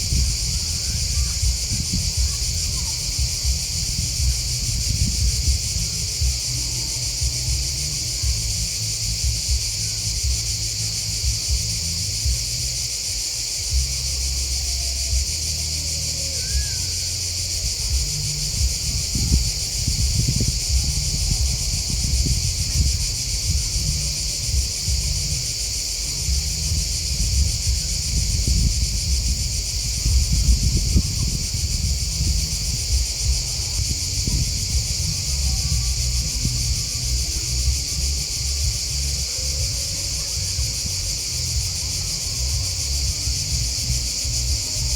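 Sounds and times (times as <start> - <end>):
grasshoppers and crickets chirping: 0.0 - 44.9
low rumble: 0.0 - 44.9.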